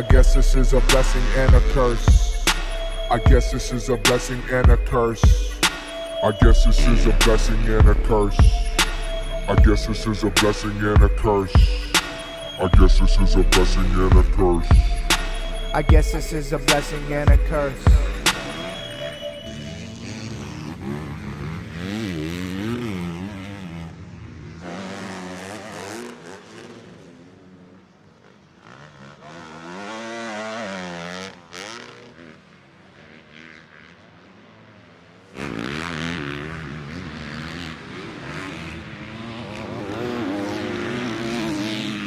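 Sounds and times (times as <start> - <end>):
motocross bike engine revving: 0.0 - 27.0, 28.6 - 32.4, 35.4 - 42.0.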